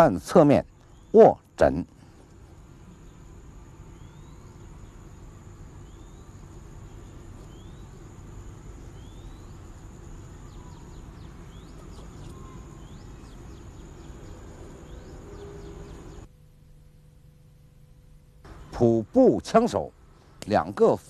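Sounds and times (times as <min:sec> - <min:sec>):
high insect-like whine: 0:00.0 - 0:16.3, 0:18.0 - 0:21.0
low background hum: 0:00.0 - 0:21.0
birds chirping: 0:00.1 - 0:16.3, 0:18.5 - 0:21.0.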